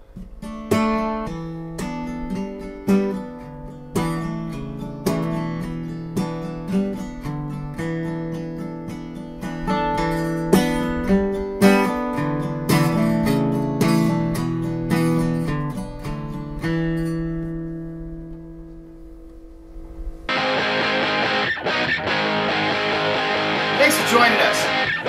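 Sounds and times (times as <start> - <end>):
acoustic guitar picking: 0.0 - 25.0
distorted electric guitar music: 0.4 - 25.0.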